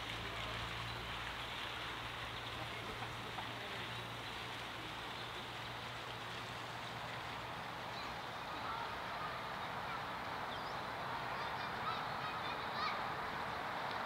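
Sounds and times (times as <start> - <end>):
hiss of running water: 0.0 - 14.0.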